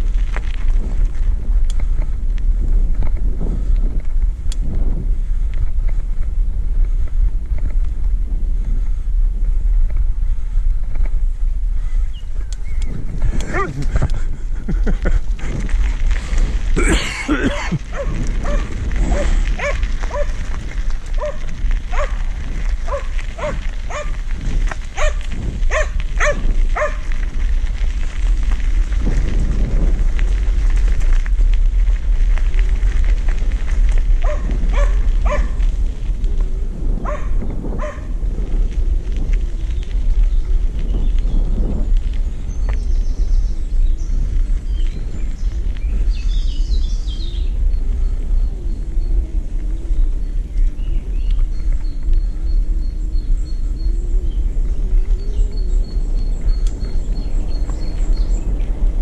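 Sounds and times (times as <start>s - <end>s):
tyres on gravel: 0.0s - 59.0s
wind on microphone: 0.0s - 59.0s.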